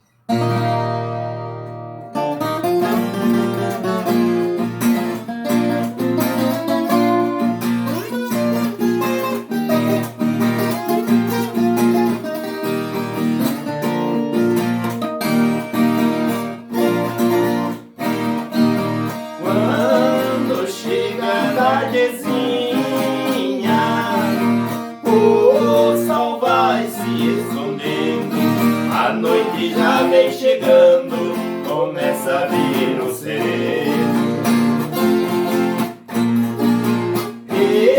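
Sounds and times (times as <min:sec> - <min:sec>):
ten-string guitar plucked and strummed: 0:00.3 - 0:37.9.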